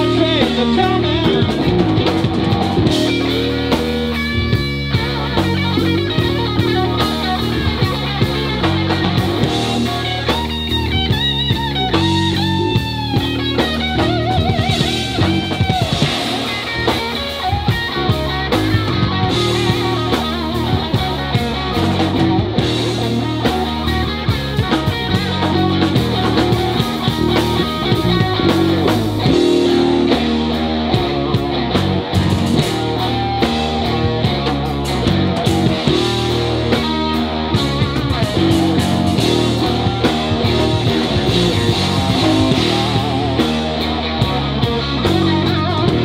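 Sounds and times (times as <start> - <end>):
drum kit: 0.0 - 46.0
electric bass: 0.0 - 46.0
electric guitar lead: 0.0 - 46.0.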